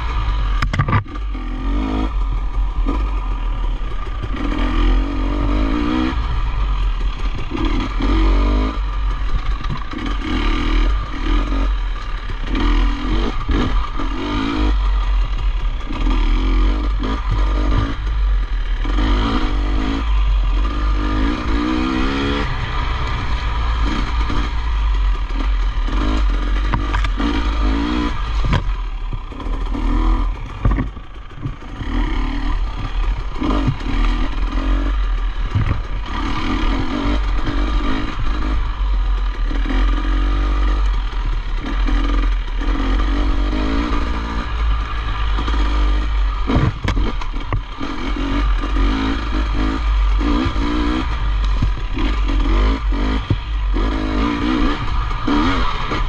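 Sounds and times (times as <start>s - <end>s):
heavy low rumble: 0.0s - 39.4s, 40.5s - 56.0s
motorcycle engine revving: 0.0s - 56.0s
knocks and clatter from bike: 0.5s - 5.1s, 5.9s - 21.9s, 22.6s - 56.0s.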